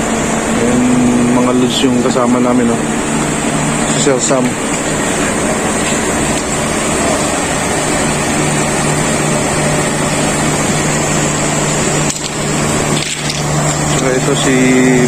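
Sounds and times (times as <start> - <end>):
machine drone: 0.0 - 15.0.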